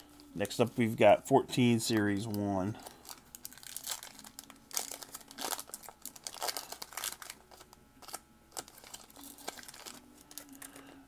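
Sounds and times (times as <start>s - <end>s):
foil wrapper tearing and crinkling: 1.9s - 10.9s.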